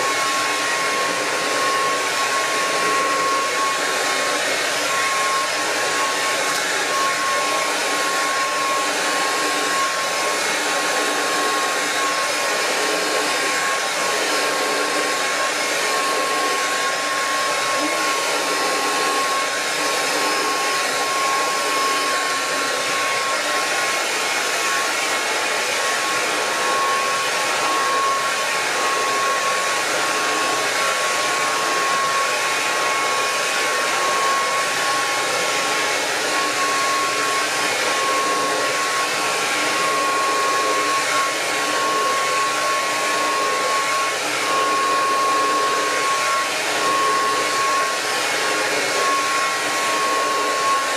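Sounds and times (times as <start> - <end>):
hair dryer blowing: 0.0 - 50.9.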